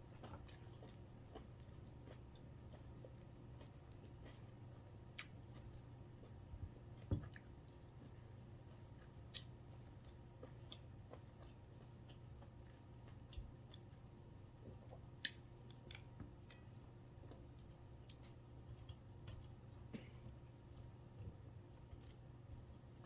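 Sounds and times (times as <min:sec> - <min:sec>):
person chewing food: 0:00.0 - 0:23.0
steady low hum: 0:00.0 - 0:23.0.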